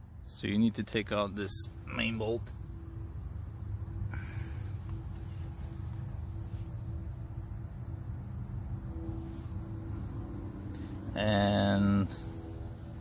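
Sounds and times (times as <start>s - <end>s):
insects chirping: 0.0s - 13.0s
low background hum: 0.0s - 13.0s.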